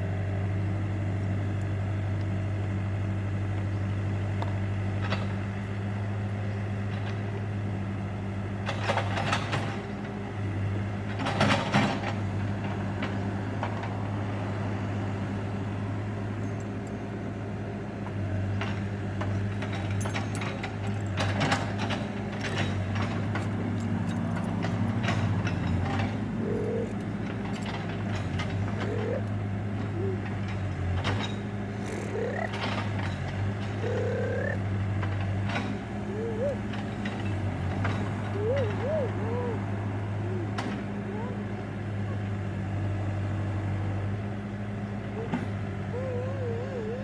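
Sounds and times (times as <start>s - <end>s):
backhoe engine running: 0.0s - 47.0s.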